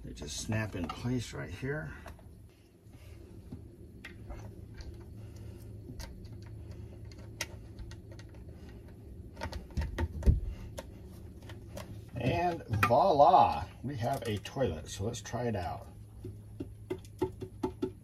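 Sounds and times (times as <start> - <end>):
low hum: 0.0 - 16.9.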